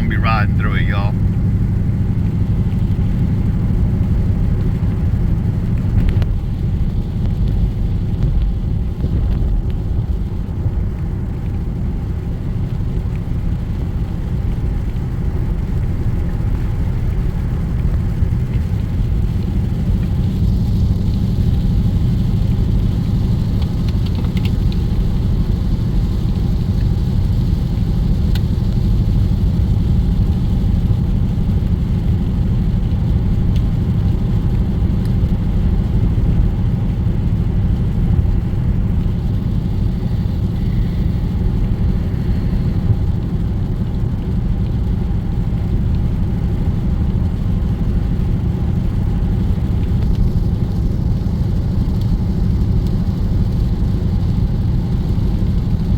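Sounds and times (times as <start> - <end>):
car cabin drone at highway speed: 0.0 - 55.9.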